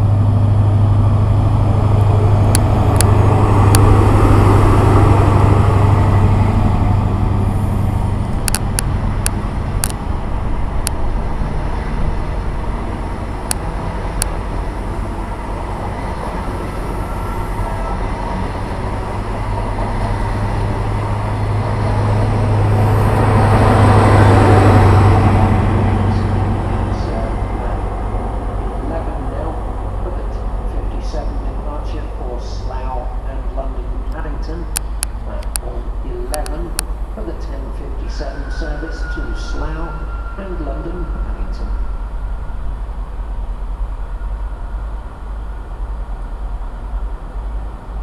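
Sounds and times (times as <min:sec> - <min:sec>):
train low drone: 0:00.0 - 0:48.0.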